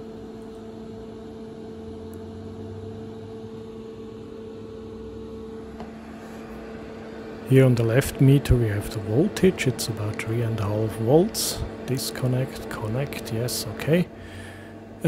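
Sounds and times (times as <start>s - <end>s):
steady two-tone electrical hum: 0.0s - 15.0s.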